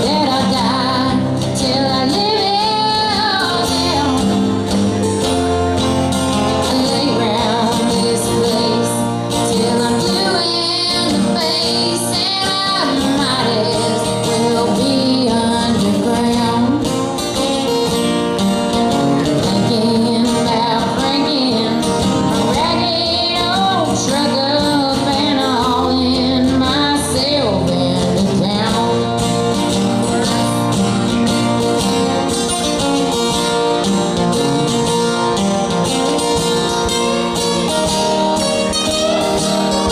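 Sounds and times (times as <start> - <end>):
woman singing: 0.0 - 32.4
guitar accompaniment: 0.0 - 39.9.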